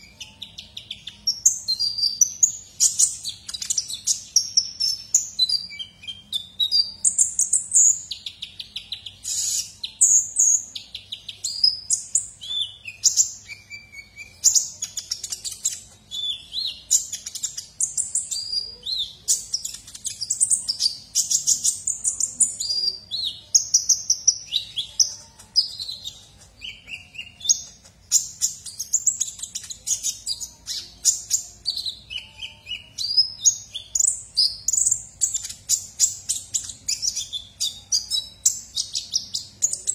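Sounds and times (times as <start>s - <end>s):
bird singing high twittering: 0.0s - 39.9s.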